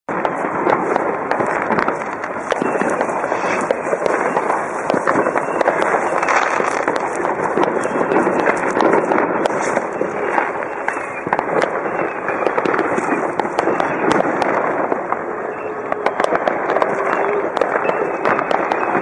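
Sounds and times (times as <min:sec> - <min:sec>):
fireworks crackling and banging: 0:00.1 - 0:19.0.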